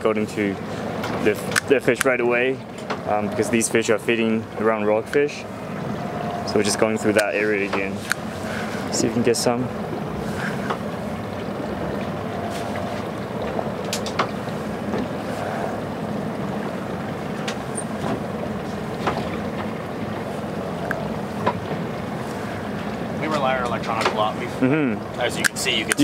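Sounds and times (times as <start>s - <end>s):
boat engine running: 0.0s - 26.0s
water noise: 0.0s - 26.0s
wind: 0.0s - 26.0s.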